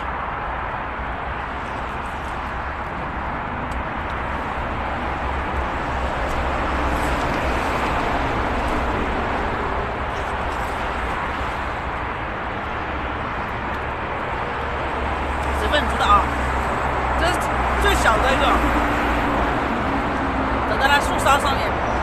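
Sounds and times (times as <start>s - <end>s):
highway traffic roar: 0.0s - 22.0s.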